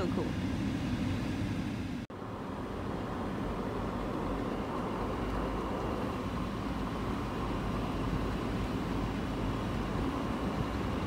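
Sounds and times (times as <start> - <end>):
car road noise inside cabin: 0.0 - 11.0.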